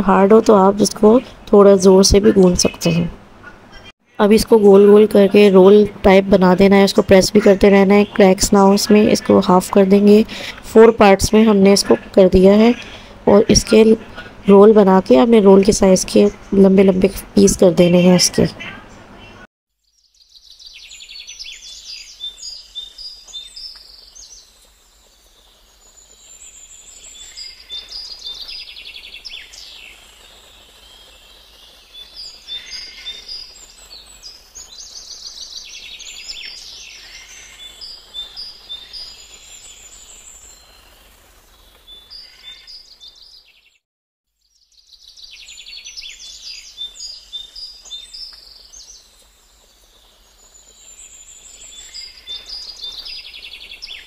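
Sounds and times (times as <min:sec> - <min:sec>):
small birds chirping: 0:00.0 - 0:43.8, 0:44.4 - 0:54.0.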